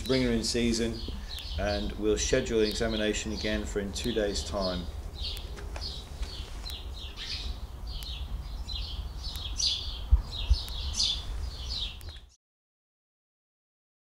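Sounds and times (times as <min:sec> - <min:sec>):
small birds chirping: 0:00.0 - 0:12.4.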